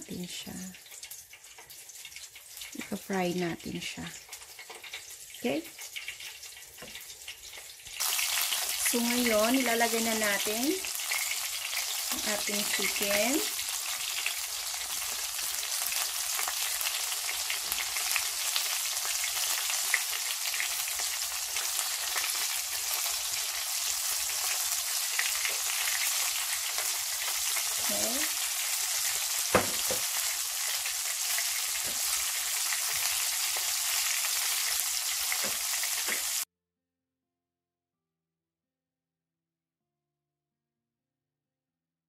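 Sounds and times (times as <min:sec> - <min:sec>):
chicken deep-frying in oil: 0:00.0 - 0:36.5.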